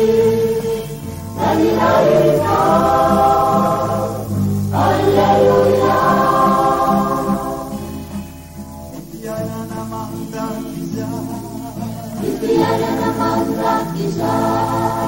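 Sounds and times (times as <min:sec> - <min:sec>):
choir singing: 0:00.0 - 0:08.2, 0:09.1 - 0:15.0.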